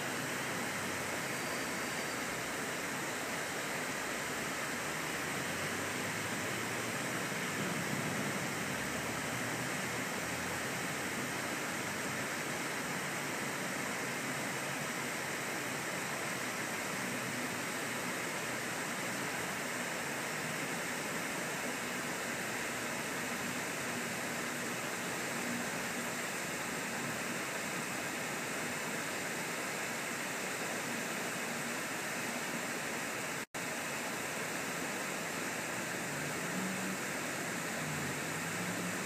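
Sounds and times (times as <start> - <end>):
water rushing over dam spillway: 0.0 - 39.0.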